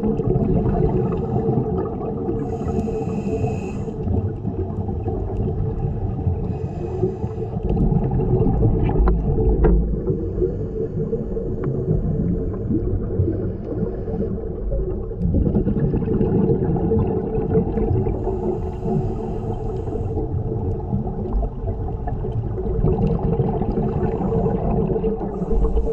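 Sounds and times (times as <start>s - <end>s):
underwater boat engine drone: 0.0s - 15.4s, 16.2s - 25.9s
diver exhaling regulator bubbles: 0.0s - 25.9s.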